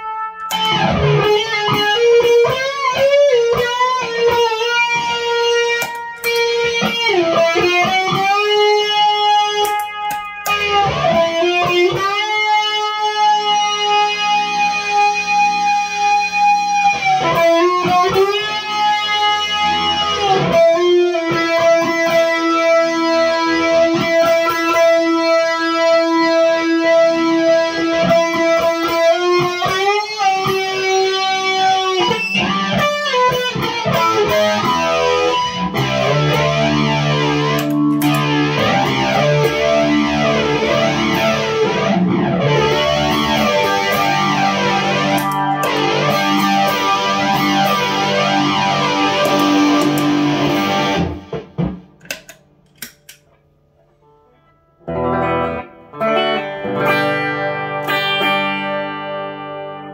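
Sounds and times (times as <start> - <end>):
distorted electric guitar: 0.0 - 54.1, 54.8 - 59.9.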